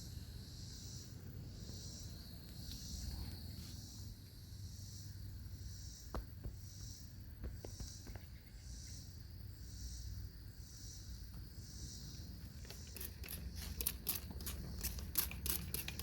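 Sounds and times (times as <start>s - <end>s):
pulsing insect chorus: 0.0s - 16.0s.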